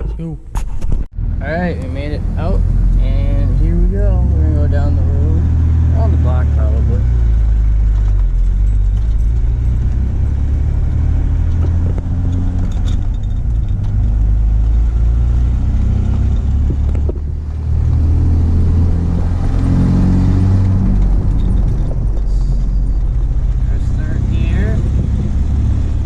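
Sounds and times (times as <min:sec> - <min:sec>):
pickup truck engine driving: 0:01.2 - 0:26.0.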